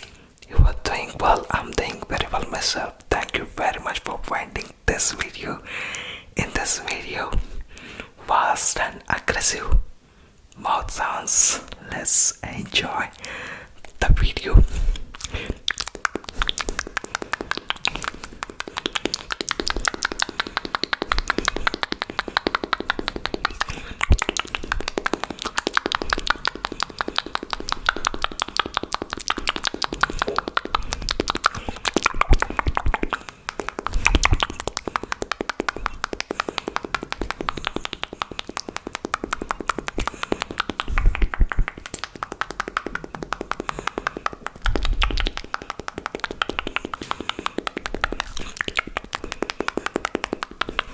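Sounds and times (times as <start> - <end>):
tongue clicks and lip smacks: 0.0 - 9.8, 10.5 - 50.9.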